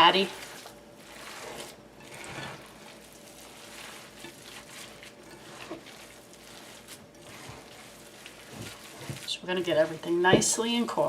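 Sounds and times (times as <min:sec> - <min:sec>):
hands squishing meat mixture: 0:00.0 - 0:11.0.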